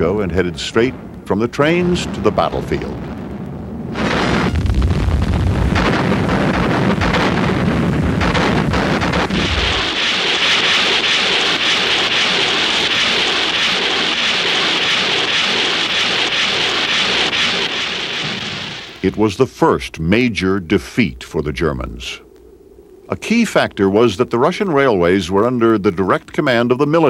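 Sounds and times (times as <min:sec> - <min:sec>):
artillery shell explosions: 0:00.0 - 0:22.2
steady hissing rush: 0:00.0 - 0:27.0.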